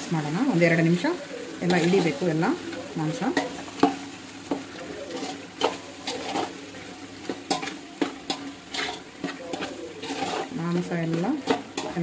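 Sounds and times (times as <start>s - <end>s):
food sizzling: 0.0s - 12.0s
metal ladle scraping a pot: 1.6s - 12.0s.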